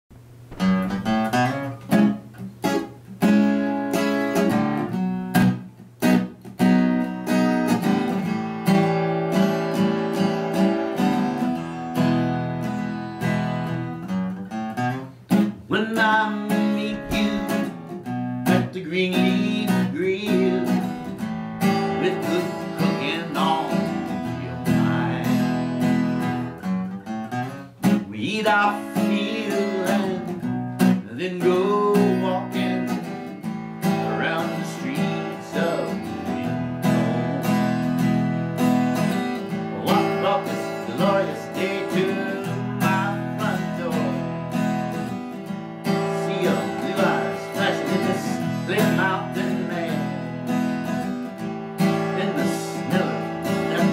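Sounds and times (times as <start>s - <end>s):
acoustic guitar strumming: 0.1s - 53.9s.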